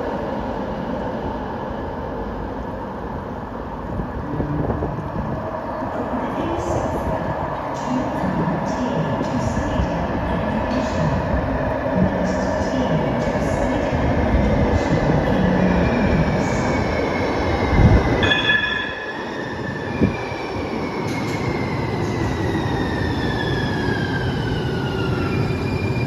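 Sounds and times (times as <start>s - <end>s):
train rumble: 0.0s - 26.0s
train whining: 0.0s - 26.0s.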